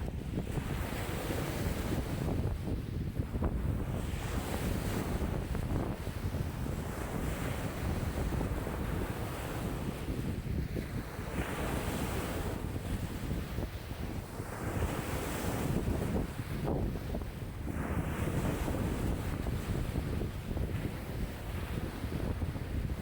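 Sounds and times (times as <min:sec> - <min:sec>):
lake waves washing: 0:00.0 - 0:23.0
wind buffeting microphone: 0:00.0 - 0:23.0.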